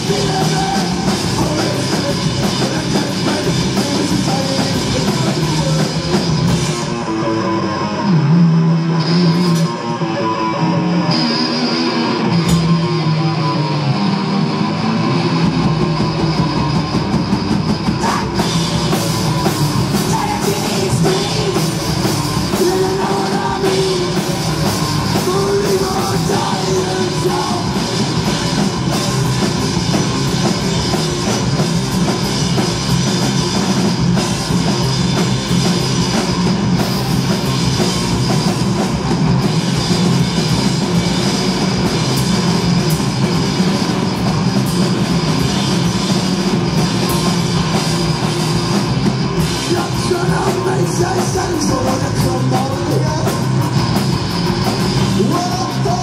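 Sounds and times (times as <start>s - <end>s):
drum kit: 0.0s - 7.5s, 8.9s - 10.1s, 11.0s - 56.0s
distorted electric guitars: 0.0s - 56.0s.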